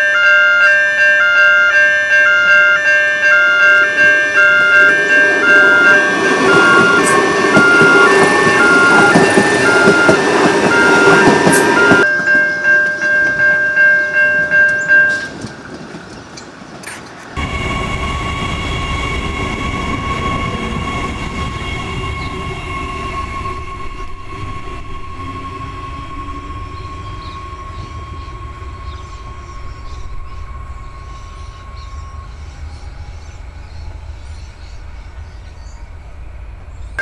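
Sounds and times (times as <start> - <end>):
high-pitched train whine: 0.0 - 37.0
train wheels rumbling on rail: 2.4 - 37.0.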